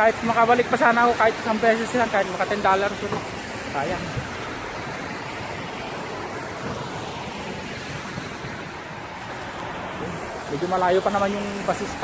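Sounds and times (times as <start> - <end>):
heavy rain on wet street: 0.0 - 12.0.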